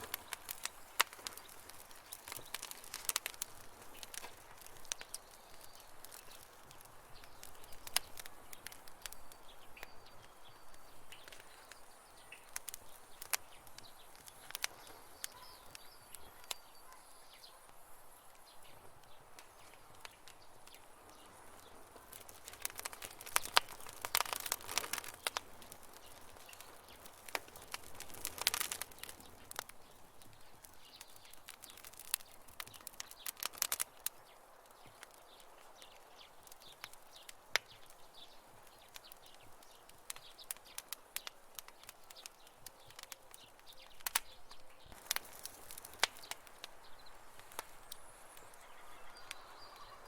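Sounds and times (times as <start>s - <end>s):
campfire crackling and popping: 0.0s - 50.0s
faint steady hiss: 0.0s - 50.0s
sharp snaps of burning wood: 0.0s - 50.0s.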